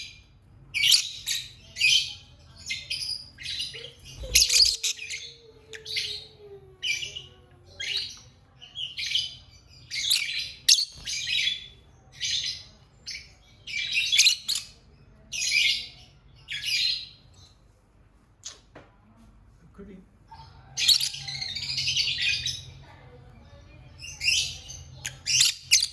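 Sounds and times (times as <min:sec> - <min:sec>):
bird chirping: 0:00.0 - 0:17.6, 0:20.3 - 0:25.9.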